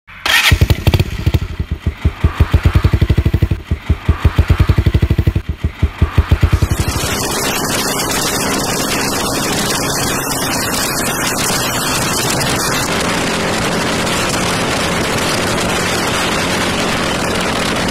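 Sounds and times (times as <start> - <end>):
motorcycle engine pulsing exhaust: 0.2 - 17.9
wind rushing: 0.3 - 17.9.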